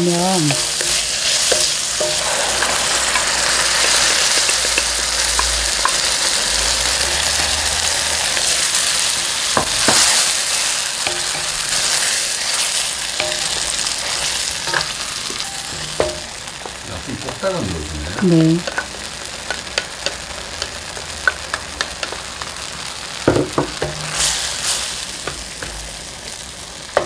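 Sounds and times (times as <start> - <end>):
onions sizzling in oil: 0.0 - 27.0
wooden spatula stirring in pan: 0.5 - 16.8, 18.6 - 27.0.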